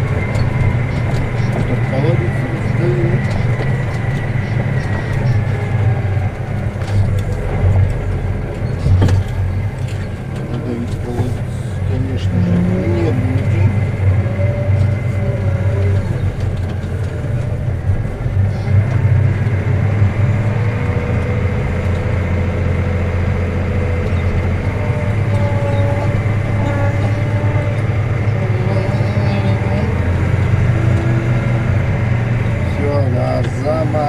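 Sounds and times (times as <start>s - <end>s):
tractor diesel engine droning: 0.0s - 34.0s.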